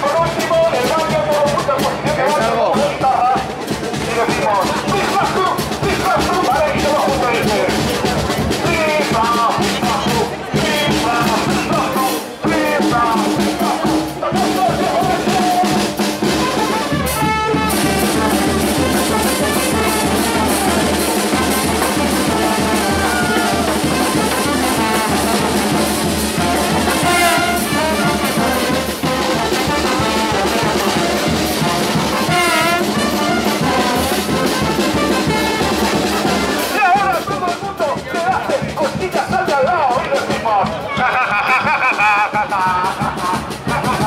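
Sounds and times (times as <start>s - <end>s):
brass band playing: 0.0s - 44.0s
snare drum: 0.0s - 44.0s
bass drum: 0.2s - 41.0s.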